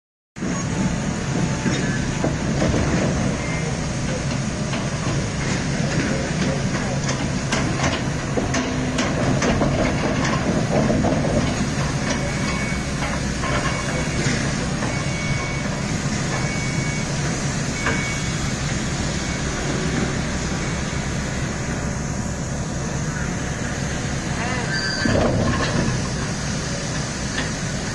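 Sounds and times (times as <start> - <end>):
excavator diesel engine running: 0.4 - 27.9.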